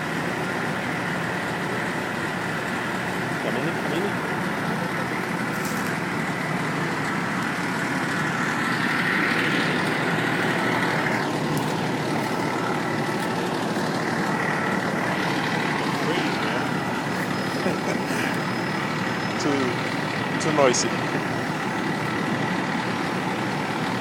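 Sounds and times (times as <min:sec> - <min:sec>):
large vehicle engine idling: 0:00.0 - 0:24.0.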